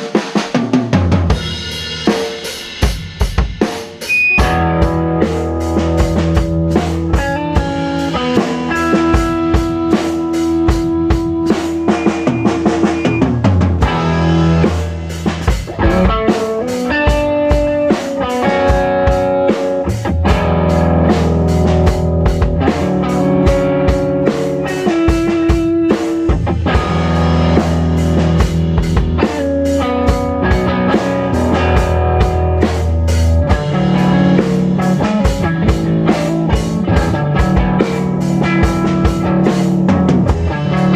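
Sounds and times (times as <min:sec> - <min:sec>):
drum kit beat: 0:00.0 - 0:40.9
electric guitar: 0:00.0 - 0:40.9
low bass notes: 0:04.2 - 0:17.0, 0:18.5 - 0:25.6, 0:26.3 - 0:40.9.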